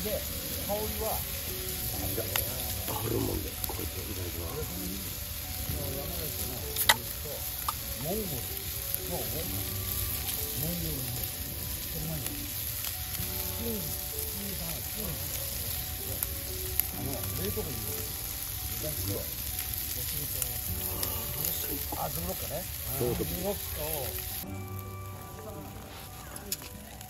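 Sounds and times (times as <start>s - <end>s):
meat sizzling in a frying pan: 0.0s - 27.0s.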